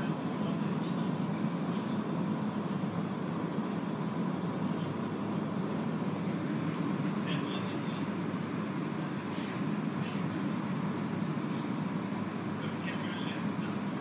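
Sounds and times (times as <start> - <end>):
train car hum and rumble: 0.0 - 14.0.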